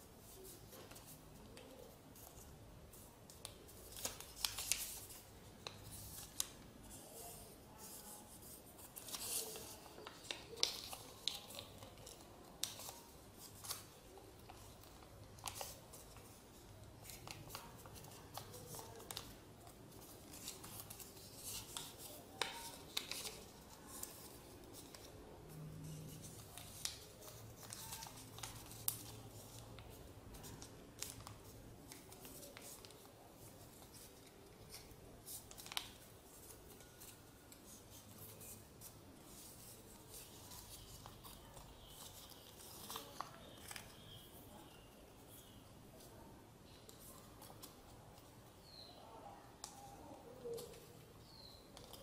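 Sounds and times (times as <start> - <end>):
paper crinkling: 0.2 - 52.0.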